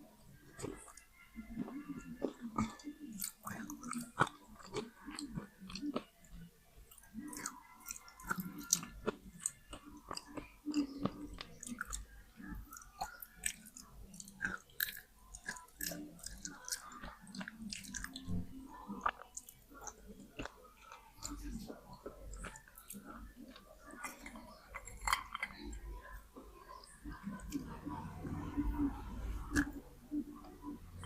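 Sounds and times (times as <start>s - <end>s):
chewing and crunching: 0.4s - 31.0s.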